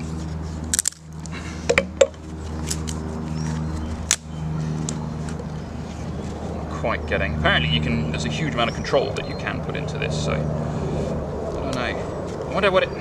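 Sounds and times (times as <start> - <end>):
airplane engine drone: 0.0 - 13.0.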